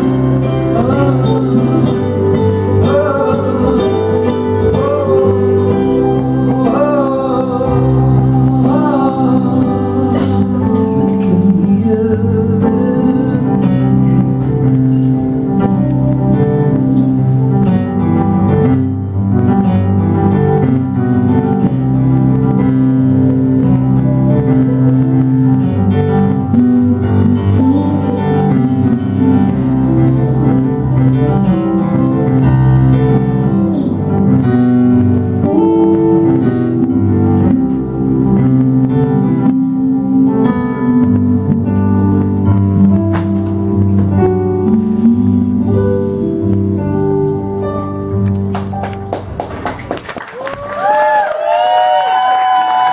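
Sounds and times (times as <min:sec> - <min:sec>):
electric guitar: 0:00.0 - 0:52.9
keyboard playing piano sound: 0:00.0 - 0:52.9.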